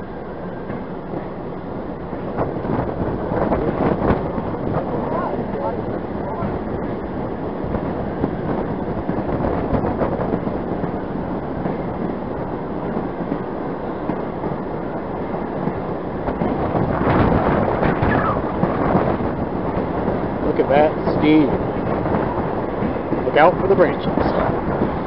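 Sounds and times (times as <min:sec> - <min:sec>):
steam locomotive running: 0:00.0 - 0:25.0
wind on microphone: 0:00.0 - 0:25.0.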